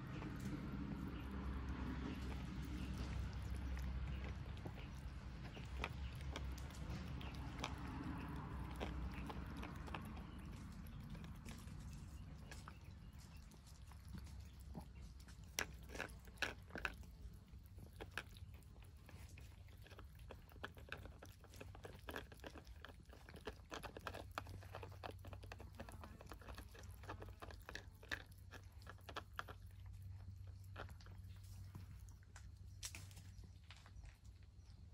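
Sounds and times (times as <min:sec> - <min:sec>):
cats chewing wet food: 0:00.0 - 0:33.6.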